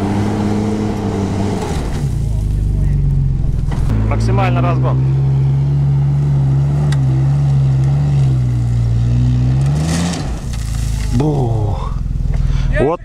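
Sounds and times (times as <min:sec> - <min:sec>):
engine running at high revs: 0:00.0 - 0:12.7.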